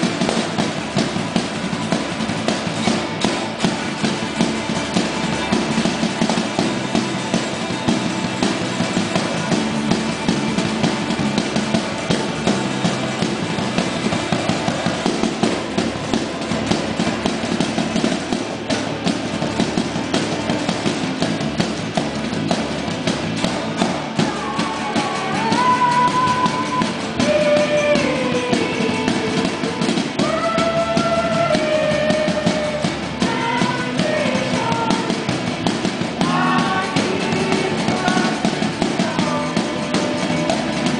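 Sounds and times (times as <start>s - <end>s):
band music with steady beat: 0.0s - 40.9s.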